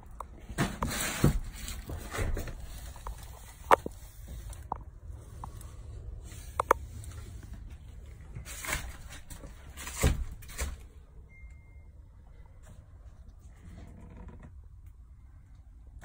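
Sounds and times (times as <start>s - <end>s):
low steady rumble: 1.5s - 9.8s, 10.8s - 16.0s.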